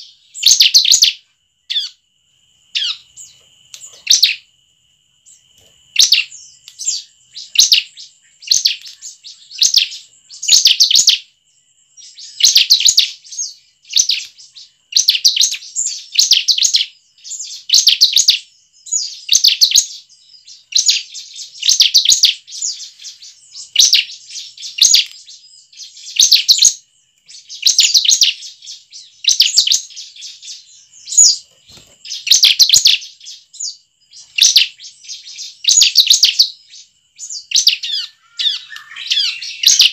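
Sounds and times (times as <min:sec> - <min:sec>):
bird chipping calls: 0:00.0 - 0:02.0, 0:02.8 - 0:04.4, 0:06.0 - 0:11.2, 0:12.0 - 0:39.9.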